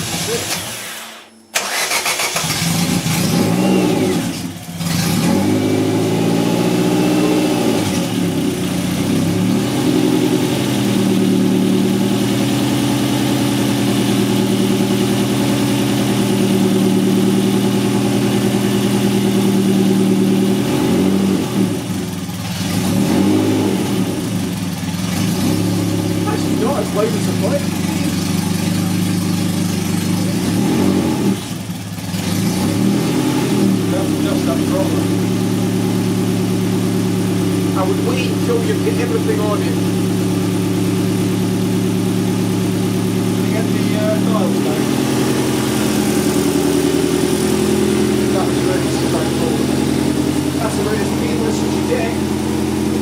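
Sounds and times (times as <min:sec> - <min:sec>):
car engine revving and idling: 0:00.0 - 0:53.0.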